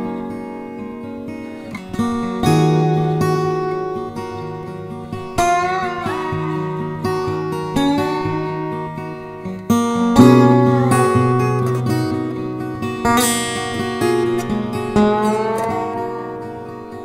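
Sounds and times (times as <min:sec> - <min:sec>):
acoustic guitar plucking and strumming: 0:00.0 - 0:17.0.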